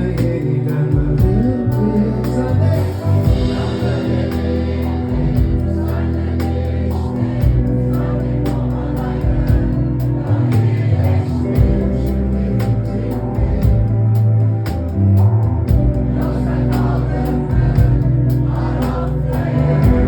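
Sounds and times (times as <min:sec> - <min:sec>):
bass guitar: 0:00.0 - 0:20.0
electric guitar: 0:00.0 - 0:20.0
voices singing: 0:00.0 - 0:20.0.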